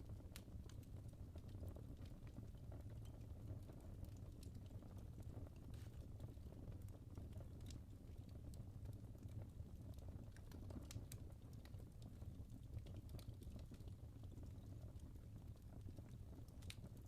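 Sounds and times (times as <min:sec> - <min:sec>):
log fire crackling and popping: 0:00.0 - 0:17.0
low rumble of flames: 0:00.0 - 0:17.0.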